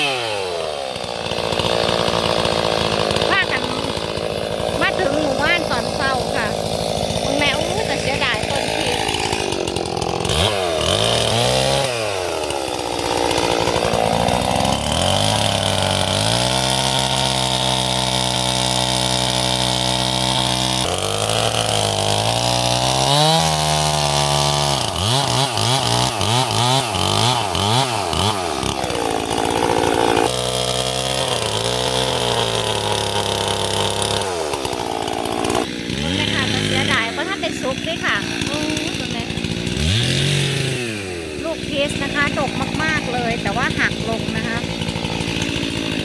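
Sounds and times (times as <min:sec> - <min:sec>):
chainsaw revving: 0:00.0 - 0:46.0.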